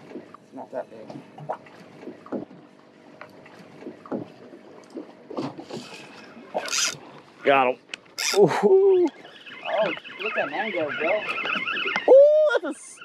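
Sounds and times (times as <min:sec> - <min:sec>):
water lapping against boat hull: 0:00.0 - 0:08.5, 0:09.1 - 0:12.2.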